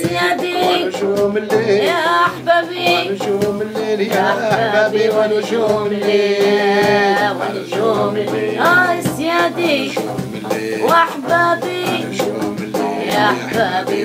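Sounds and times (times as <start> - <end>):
instrumental music: 0.0 - 14.0
person singing: 0.0 - 14.0.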